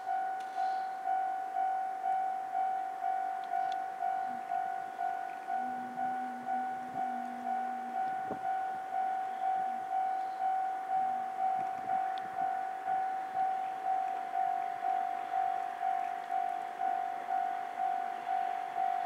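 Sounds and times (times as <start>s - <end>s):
level crossing alarm bell: 0.0s - 19.0s.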